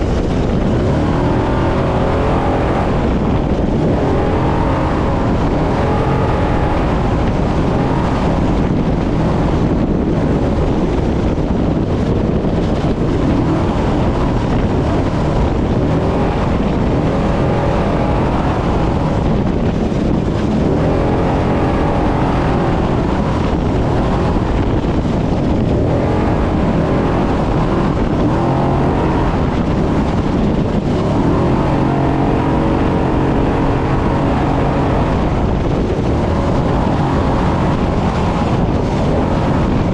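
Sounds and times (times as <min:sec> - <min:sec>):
truck engine revving: 0:00.0 - 0:11.0, 0:11.7 - 0:39.9
heavy rumble: 0:00.0 - 0:39.9
wind noise on microphone: 0:00.0 - 0:39.9.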